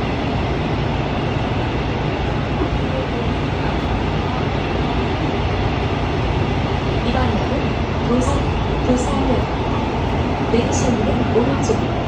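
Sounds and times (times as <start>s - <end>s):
subway train rumble inside car: 0.0s - 12.0s.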